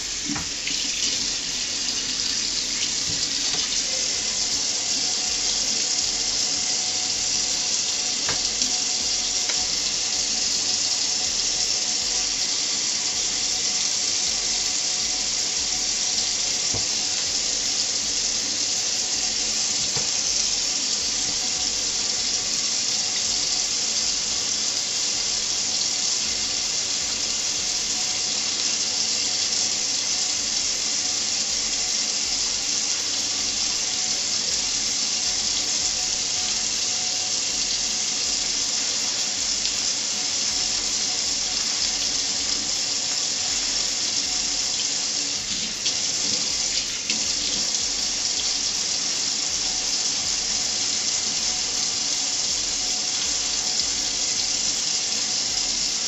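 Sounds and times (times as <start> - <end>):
faucet running into metal sink: 0.0 - 56.0.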